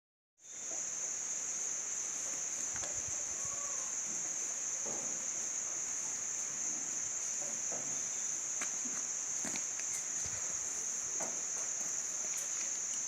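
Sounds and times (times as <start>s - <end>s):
high-pitched insect drone: 0.4s - 13.0s.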